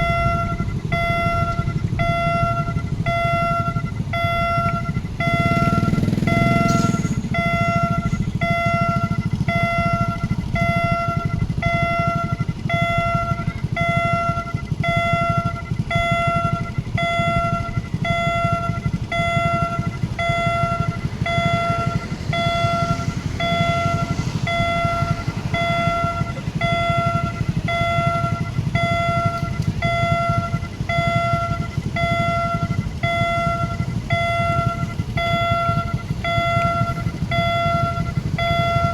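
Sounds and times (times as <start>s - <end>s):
level crossing warning tone: 0.0s - 38.9s
low rumble: 0.0s - 38.9s.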